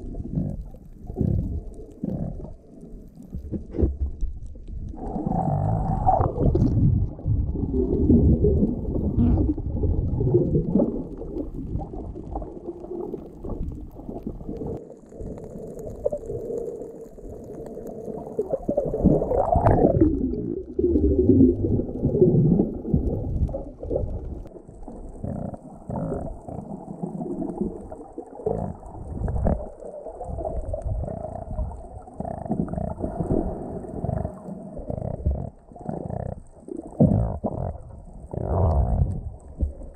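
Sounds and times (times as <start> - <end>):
muffled underwater rumbling: 0.0 - 39.9.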